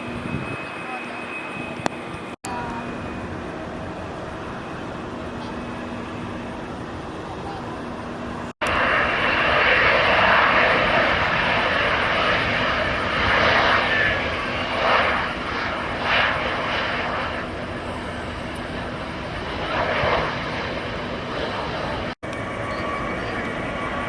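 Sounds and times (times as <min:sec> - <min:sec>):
jet airliner engines running: 0:00.0 - 0:24.0.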